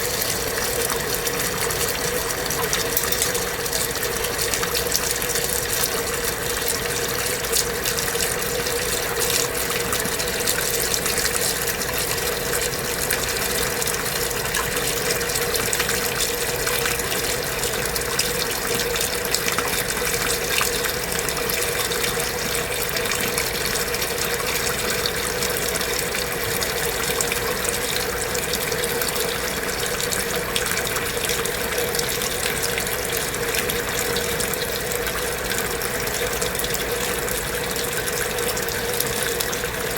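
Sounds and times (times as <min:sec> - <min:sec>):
washing machine hum: 0:00.0 - 0:39.9
water rushing in washing machine: 0:00.0 - 0:39.9.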